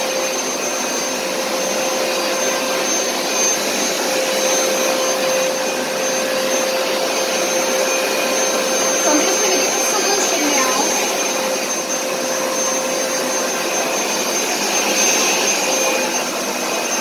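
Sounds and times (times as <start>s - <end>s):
carpet shampooer motor humming: 0.0s - 17.0s.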